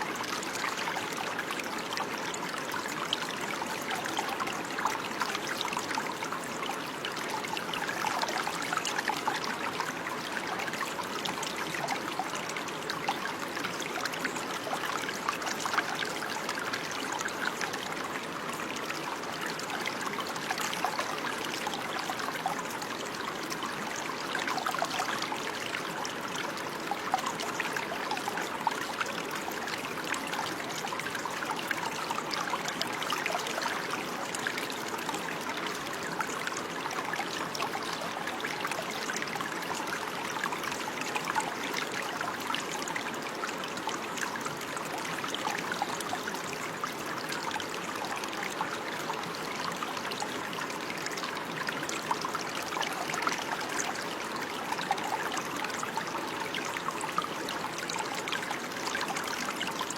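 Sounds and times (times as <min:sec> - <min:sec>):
stream trickling and burbling: 0:00.0 - 0:59.9.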